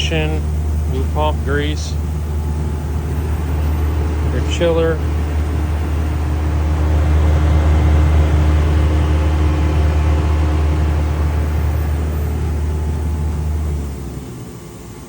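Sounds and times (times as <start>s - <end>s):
chiller unit humming: 0.0s - 15.0s.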